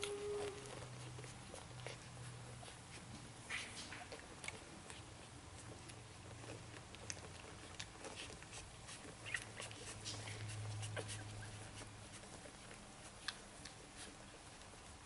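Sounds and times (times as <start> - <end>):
puppies suckling: 0.0 - 15.0.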